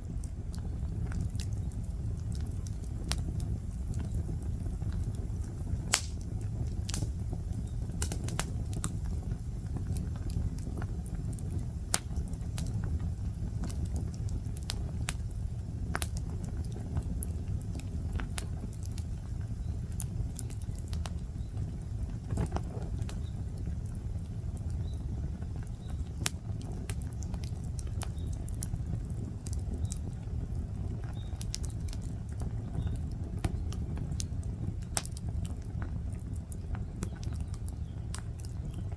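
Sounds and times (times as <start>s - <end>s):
bonfire crackling and popping: 0.0s - 38.9s
steady low rumble: 0.0s - 38.9s.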